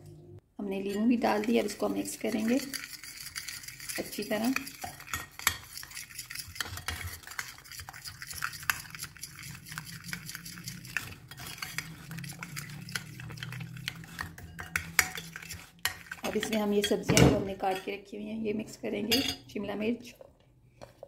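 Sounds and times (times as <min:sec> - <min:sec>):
spoon stirring thick marinade: 0:00.7 - 0:18.0
spoon scraping glass bowl: 0:00.8 - 0:18.0.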